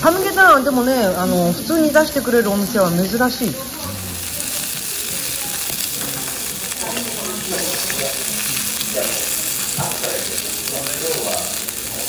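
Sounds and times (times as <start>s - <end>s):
beef sizzling on a grill: 0.0s - 12.0s.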